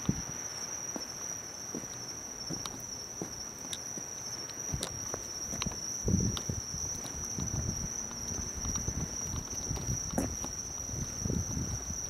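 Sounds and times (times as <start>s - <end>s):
footsteps on pavement: 0.0s - 11.9s
crickets chirping: 0.0s - 12.0s.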